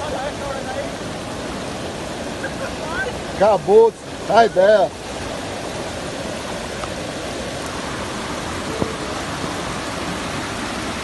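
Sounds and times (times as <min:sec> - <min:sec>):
floodwater rushing over spillway: 0:00.0 - 0:11.0.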